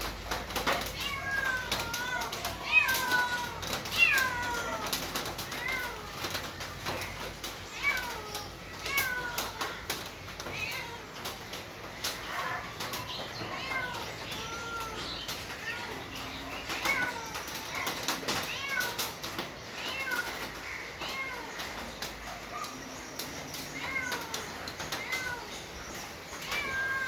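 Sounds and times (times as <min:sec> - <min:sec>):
kittens meowing: 0:00.6 - 0:27.0.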